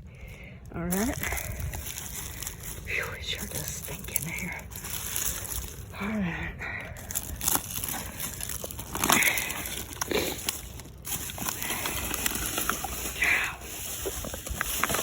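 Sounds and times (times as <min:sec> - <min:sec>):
hand scraping through dirt: 0:00.9 - 0:06.0, 0:07.0 - 0:15.0.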